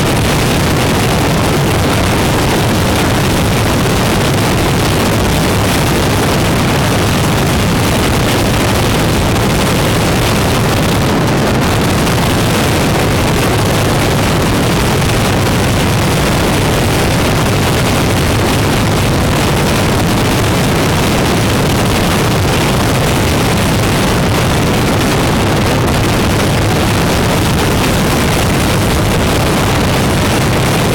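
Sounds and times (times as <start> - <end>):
motorcycle engine: 0.0 - 30.9
road noise: 0.0 - 30.9
wind rush on microphone: 0.0 - 30.9.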